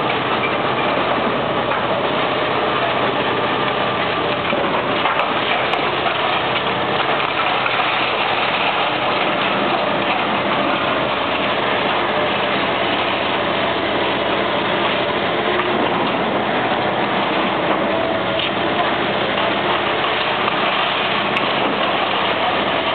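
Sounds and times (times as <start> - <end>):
continuous noisy rush: 0.0 - 22.9
excavator diesel engine running: 0.0 - 22.9.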